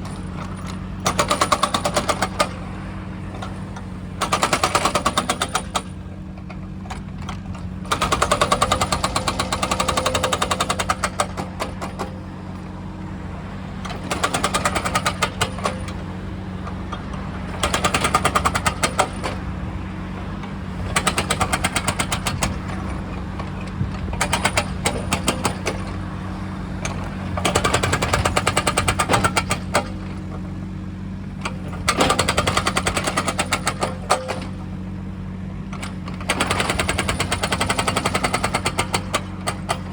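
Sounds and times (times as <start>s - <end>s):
hydraulic breaker hammering: 0.0s - 2.7s, 3.3s - 12.2s, 13.8s - 16.0s, 16.7s - 20.0s, 20.8s - 30.4s, 31.4s - 34.8s, 35.7s - 39.9s
diesel engine hum: 0.0s - 39.9s.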